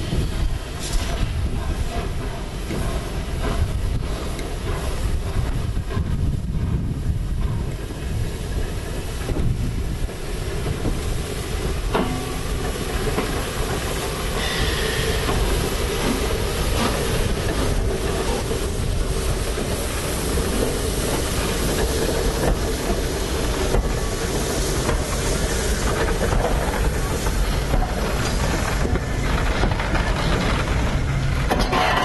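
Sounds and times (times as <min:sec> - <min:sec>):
locomotive low rumble: 0:00.0 - 0:32.0
steam hissing: 0:00.0 - 0:32.0
wheels clicking on rails: 0:00.1 - 0:32.0.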